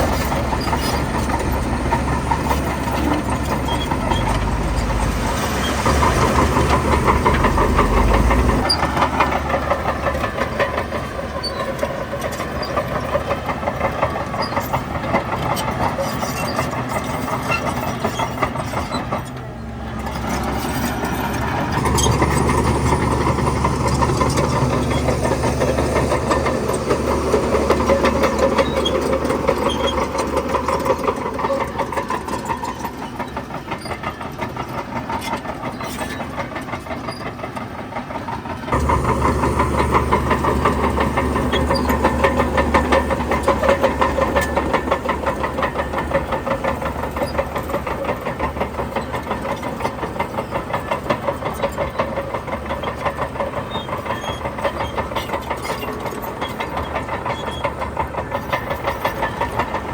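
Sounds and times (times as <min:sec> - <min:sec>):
bulldozer diesel engine: 0:00.0 - 0:59.9
crawler tracks clattering: 0:00.0 - 0:59.9.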